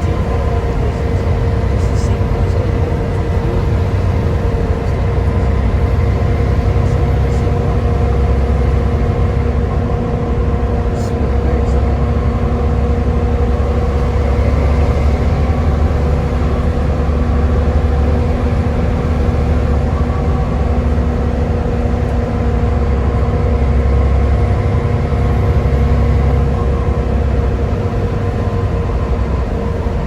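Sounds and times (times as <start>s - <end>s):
bus diesel engine droning: 0.0s - 30.0s.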